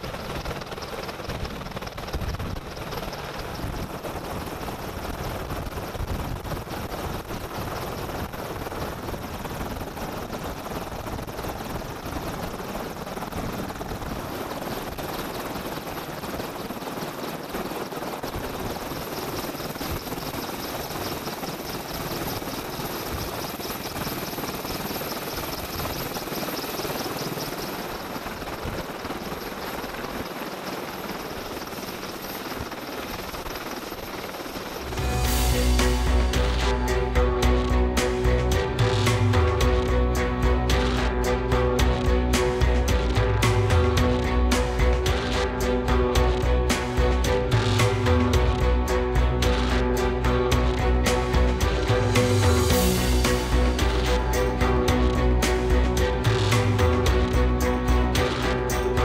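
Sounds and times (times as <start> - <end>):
helicopter turbine whine: 0.0 - 59.0
rotor blades pulsing: 0.0 - 59.0.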